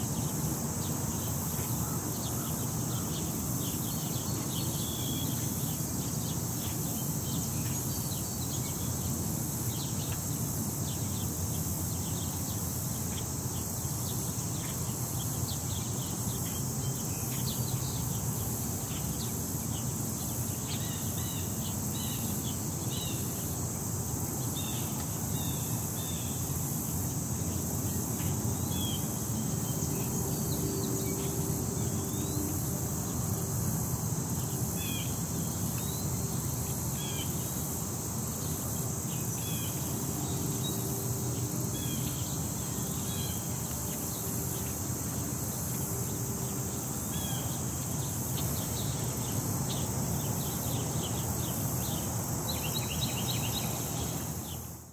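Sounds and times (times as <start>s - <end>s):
steady high hiss: 0.0s - 54.9s.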